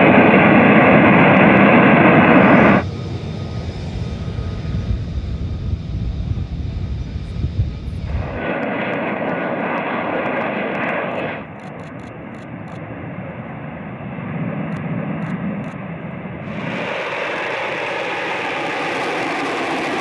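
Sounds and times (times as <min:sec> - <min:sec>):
jet engine roaring: 0:00.0 - 0:20.0.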